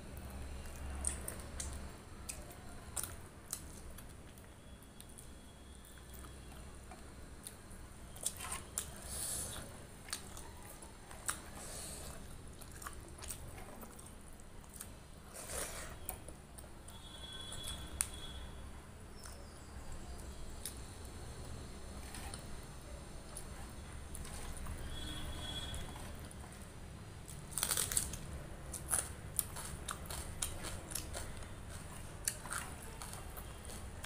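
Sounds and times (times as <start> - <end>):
chewing and wet mouth noises: 0.1 - 18.3, 19.1 - 34.0.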